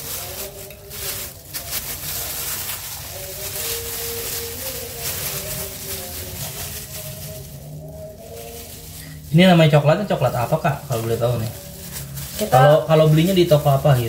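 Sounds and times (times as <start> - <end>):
plastic gloves rustling and crinkling: 0.0 - 14.0.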